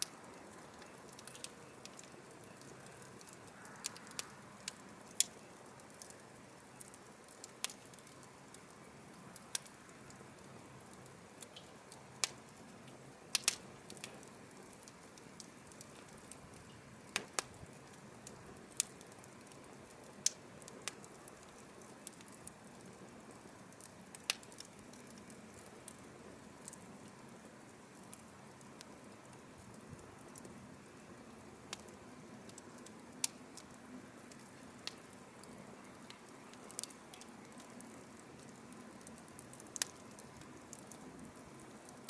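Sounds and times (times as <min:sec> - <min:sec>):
firewood crackling and popping: 0:00.0 - 0:42.0.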